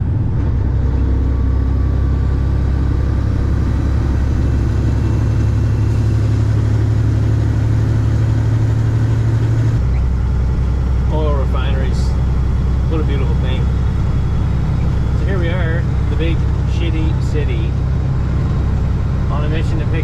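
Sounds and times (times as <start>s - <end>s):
vehicle engine droning: 0.0s - 20.0s.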